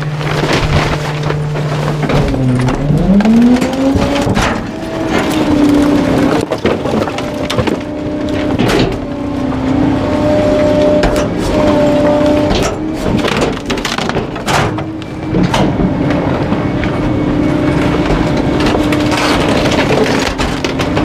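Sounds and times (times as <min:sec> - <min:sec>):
garbage truck engine revving: 0:00.0 - 0:21.0
items being crushed: 0:00.0 - 0:21.0.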